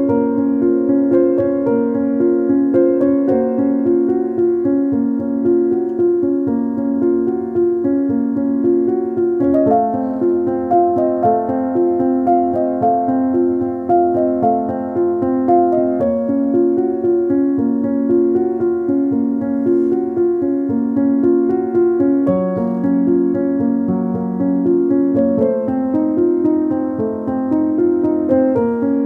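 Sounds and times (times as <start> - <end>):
fast keyboard melody music: 0.0 - 29.0.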